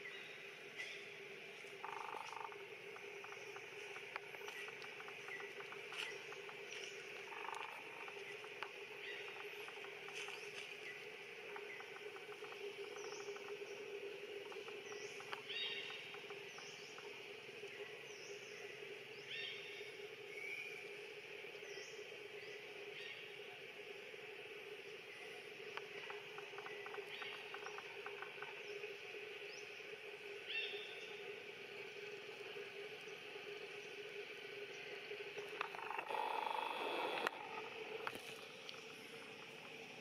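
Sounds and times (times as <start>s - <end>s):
steady low hum: 0.0s - 40.0s
insect-like buzzing: 0.8s - 40.0s.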